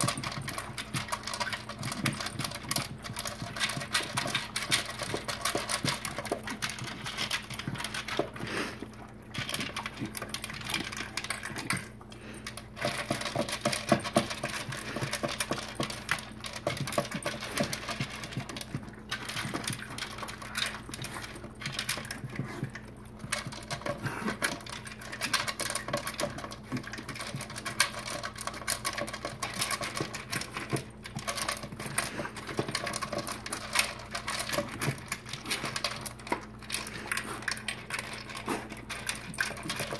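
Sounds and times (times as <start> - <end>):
dogs eating dry kibble: 0.0 - 39.9.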